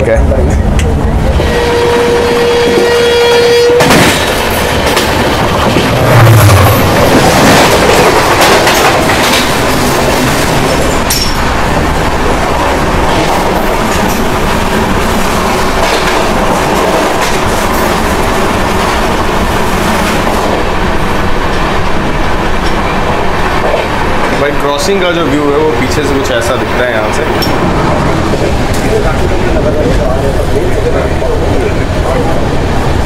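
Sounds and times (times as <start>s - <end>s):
train wheels rushing on rail: 0.0s - 33.0s.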